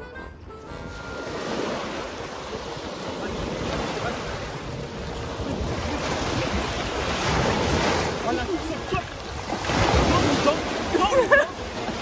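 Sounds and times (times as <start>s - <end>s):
waves washing over pebbles: 1.1s - 12.0s.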